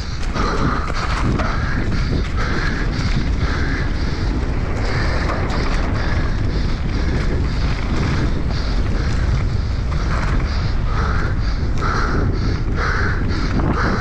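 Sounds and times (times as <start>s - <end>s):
bike tyres rolling on gravel: 0.0s - 14.0s
wind buffeting microphone: 0.0s - 14.0s.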